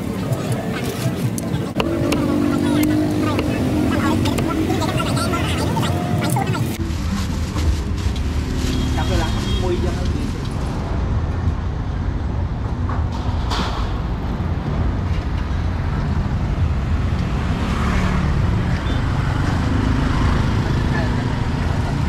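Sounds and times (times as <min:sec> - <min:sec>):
passing vehicle engines rumbling: 0:00.0 - 0:22.0.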